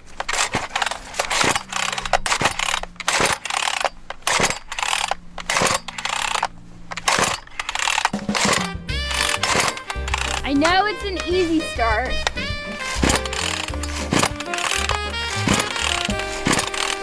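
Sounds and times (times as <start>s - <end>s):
chainsaw recoil starter pulls: 0.0s - 17.0s.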